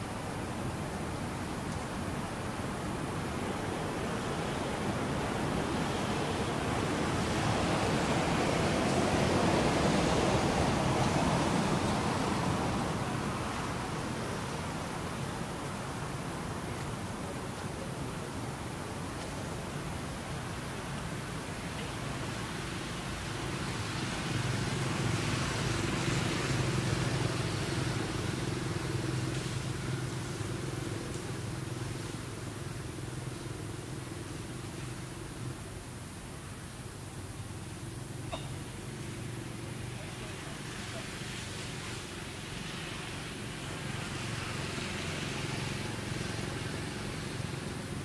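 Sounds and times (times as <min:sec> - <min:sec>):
road noise: 0:00.0 - 0:48.0.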